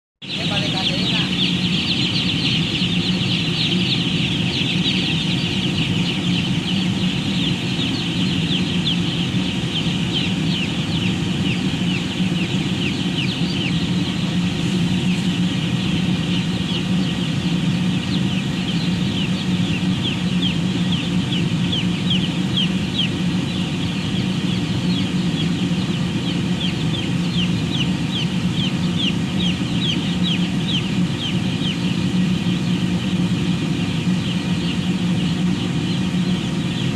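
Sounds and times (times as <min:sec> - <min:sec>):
chickens peeping: 0:00.2 - 0:36.9
low machine hum: 0:00.2 - 0:36.9.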